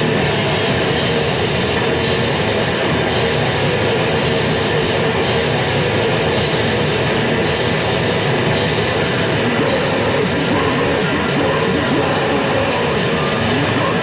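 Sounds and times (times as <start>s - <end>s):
distorted band music: 0.0s - 14.0s.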